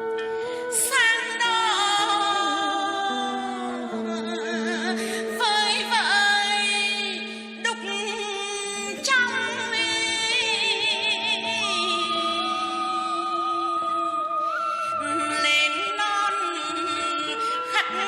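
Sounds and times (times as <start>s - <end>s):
person singing with vibrato: 0.7s - 18.0s.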